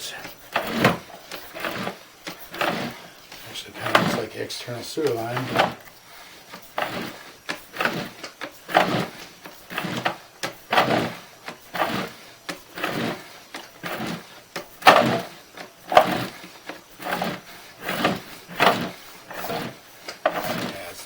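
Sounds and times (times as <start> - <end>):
cable sliding and rasping: 0.0 - 21.0.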